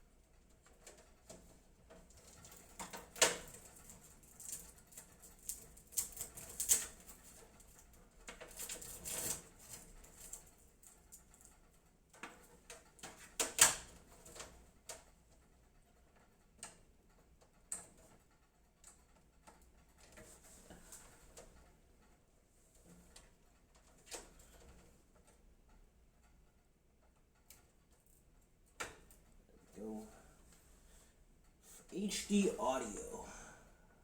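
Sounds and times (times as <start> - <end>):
cables rustling and clicking: 0.0 - 32.9.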